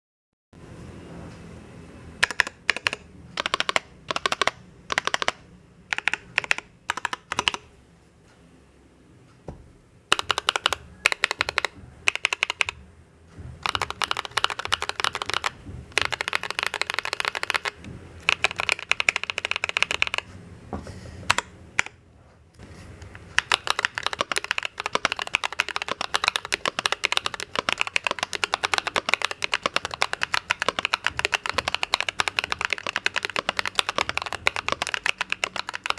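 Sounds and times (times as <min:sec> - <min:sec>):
typing on a mechanical keyboard: 0:02.2 - 0:07.7, 0:10.1 - 0:12.8, 0:13.5 - 0:20.3, 0:21.3 - 0:22.0, 0:22.6 - 0:35.9.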